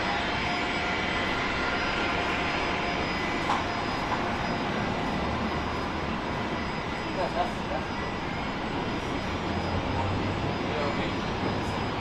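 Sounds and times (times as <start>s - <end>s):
faint high whine: 0.0s - 12.0s
jet engines running: 0.0s - 12.0s.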